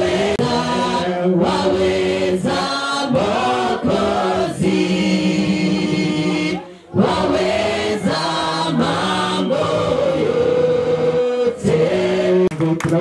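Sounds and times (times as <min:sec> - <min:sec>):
group singing unaccompanied: 0:00.0 - 0:12.8.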